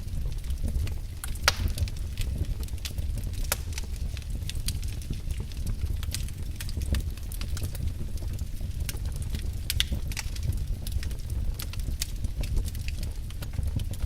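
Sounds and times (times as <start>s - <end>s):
low steady rumble: 0.0s - 14.0s
wood fire crackling: 0.0s - 14.0s.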